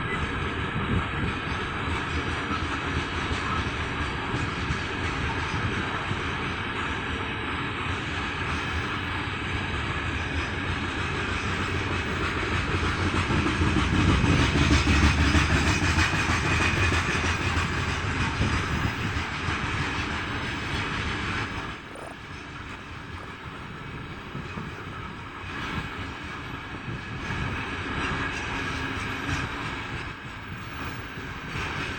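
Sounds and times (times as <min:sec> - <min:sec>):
freight train wheels clattering: 0:00.0 - 0:31.9.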